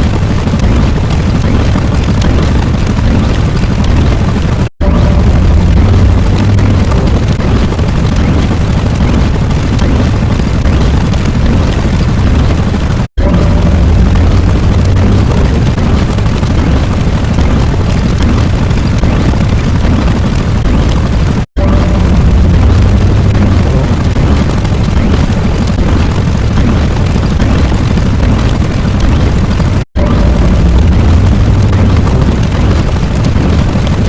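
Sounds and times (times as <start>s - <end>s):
loud steady rumbling: 0.0s - 34.0s.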